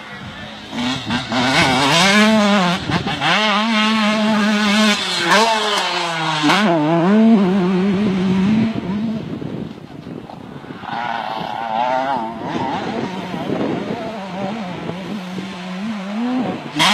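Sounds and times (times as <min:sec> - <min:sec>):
motocross bike engine revving: 0:00.0 - 0:16.9.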